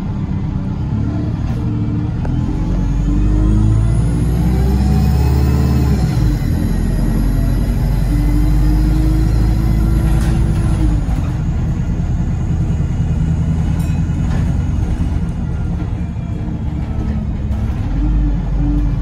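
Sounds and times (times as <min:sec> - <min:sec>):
bus engine rumble and whine: 0:00.0 - 0:19.0.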